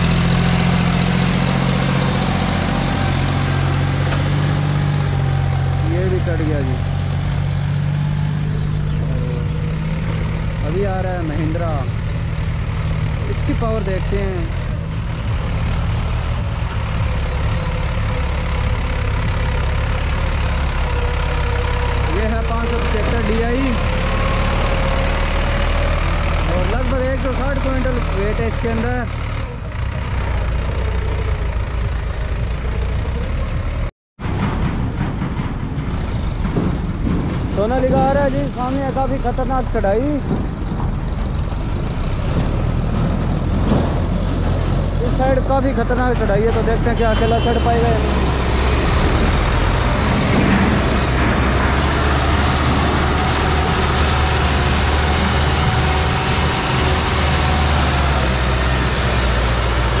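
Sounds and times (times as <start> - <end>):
rough noisy tractor engine: 0.0 - 60.0
tractor diesel engine under load: 0.0 - 60.0.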